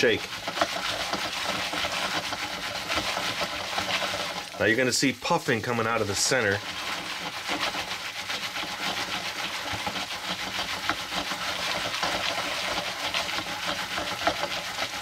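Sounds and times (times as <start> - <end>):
oil sizzling and crackling: 0.0 - 15.0
pan rubbing on burner: 0.0 - 15.0.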